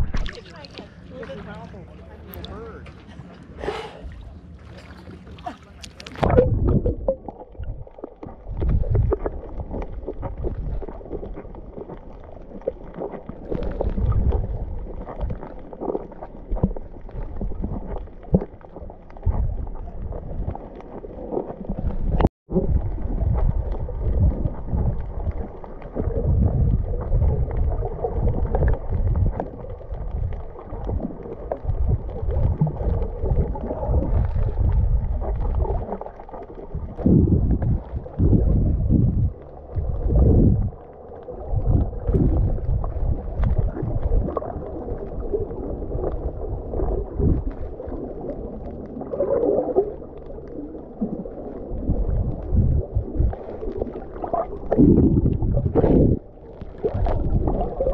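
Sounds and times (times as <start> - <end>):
muffled underwater water rumbling: 0.0 - 57.9.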